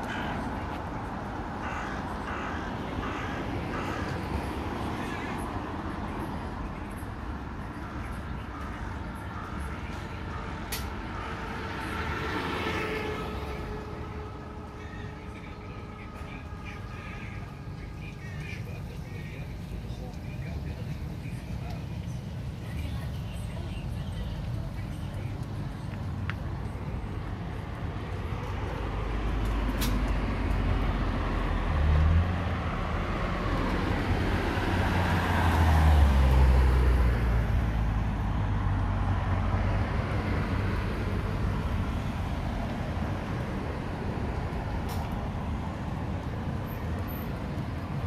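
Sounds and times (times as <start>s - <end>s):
street traffic hum: 0.0s - 48.0s.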